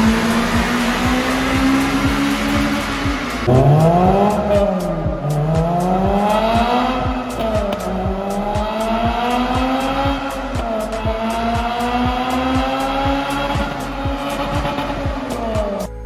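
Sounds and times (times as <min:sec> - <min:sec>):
car engine accelerating hard: 0:00.0 - 0:16.0
music with a steady beat: 0:00.0 - 0:16.0.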